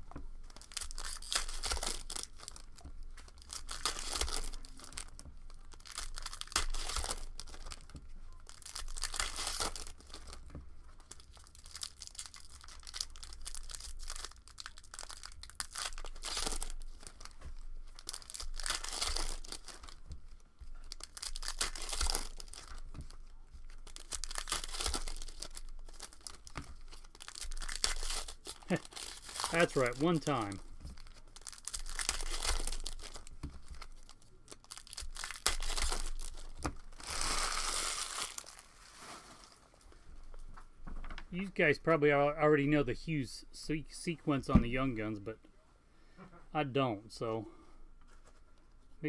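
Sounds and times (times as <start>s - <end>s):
foil wrappers crinkling: 0.0s - 40.0s.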